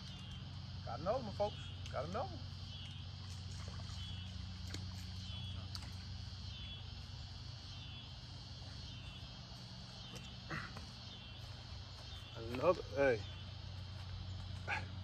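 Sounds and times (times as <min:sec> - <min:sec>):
insects chirping: 0:00.0 - 0:15.0
low steady hum: 0:00.0 - 0:15.0.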